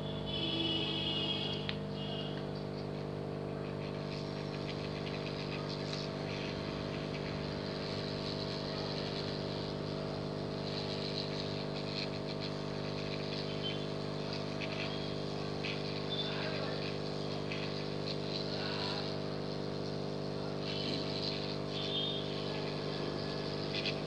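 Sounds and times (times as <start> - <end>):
hot air gun blower humming: 0.0 - 24.0
air hissing: 3.9 - 24.0.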